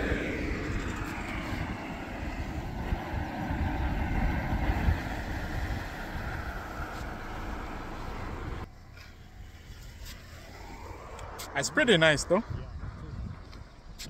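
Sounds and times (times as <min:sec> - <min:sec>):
car passing: 0:00.0 - 0:13.9.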